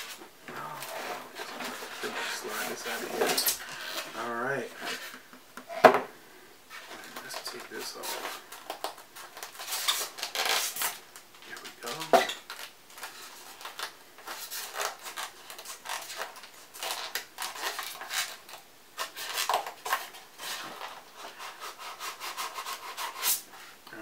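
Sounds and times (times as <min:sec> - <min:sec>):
cardboard scraping and rubbing: 0:00.0 - 0:05.9, 0:06.7 - 0:08.5, 0:09.2 - 0:23.6.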